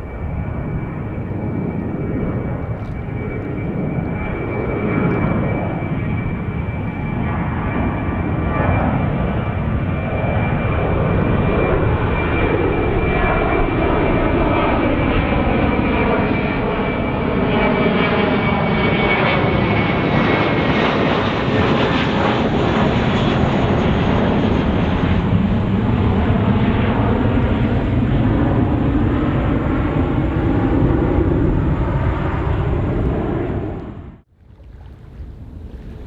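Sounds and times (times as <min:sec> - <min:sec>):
high jet whine: 0:00.0 - 0:36.0
jet engine rumble: 0:00.0 - 0:36.0.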